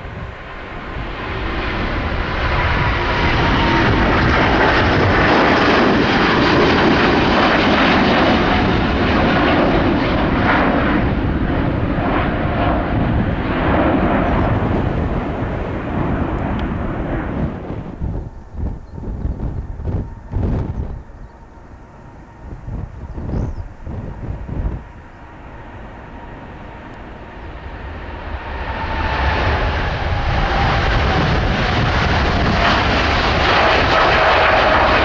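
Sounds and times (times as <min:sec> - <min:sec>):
jet airliner departing: 0:00.0 - 0:35.0.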